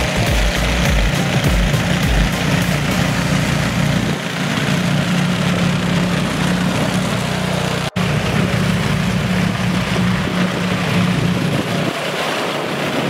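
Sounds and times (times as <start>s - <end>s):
snowblower engine running: 0.0s - 13.0s.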